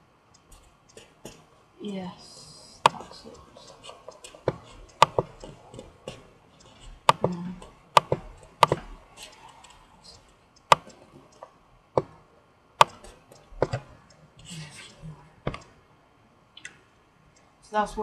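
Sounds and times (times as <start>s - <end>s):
sharp irregular clicks: 0.3s - 1.5s, 2.2s - 15.8s, 16.6s - 18.0s.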